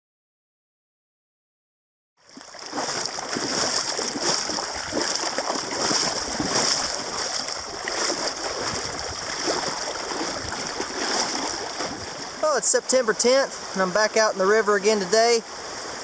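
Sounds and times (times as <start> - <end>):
river water rushing and splashing: 2.2 - 16.0.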